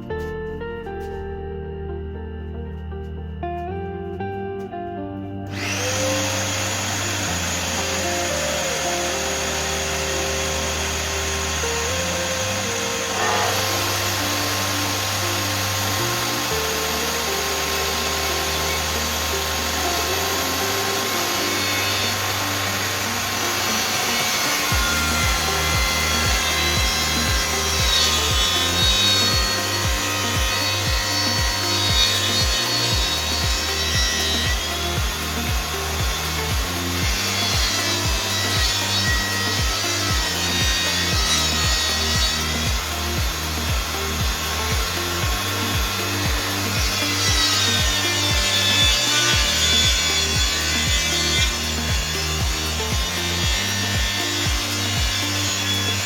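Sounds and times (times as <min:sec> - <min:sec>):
background music with bass beat: 0:00.0 - 0:56.0
power saw cutting wood: 0:05.5 - 0:56.0.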